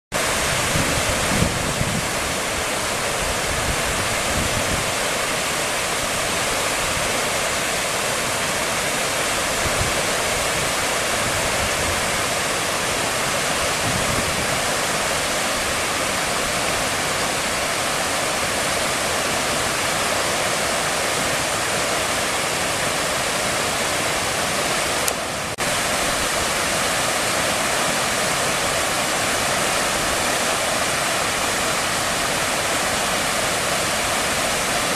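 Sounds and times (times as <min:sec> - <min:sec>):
water rushing over a weir: 0:00.2 - 0:34.9.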